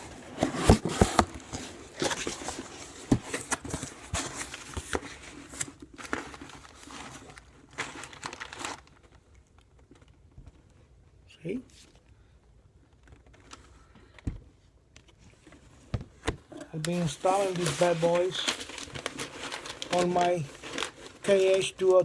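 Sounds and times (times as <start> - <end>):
packaging crinkling and rustling: 0.0 - 10.9, 12.7 - 14.2, 16.5 - 22.0.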